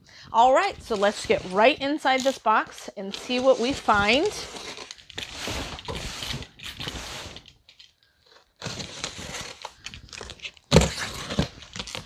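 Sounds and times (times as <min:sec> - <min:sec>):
tape and cardboard crinkling: 0:00.4 - 0:12.0.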